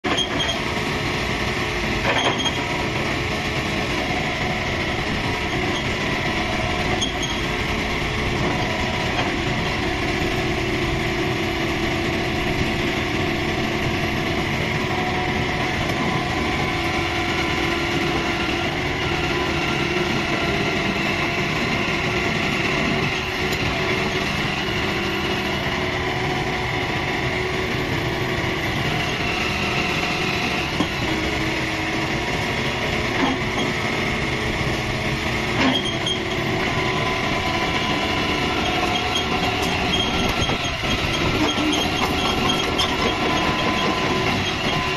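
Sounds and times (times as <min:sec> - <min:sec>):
excavator engine running: 0:00.0 - 0:44.9
hydraulic whine: 0:00.1 - 0:44.9.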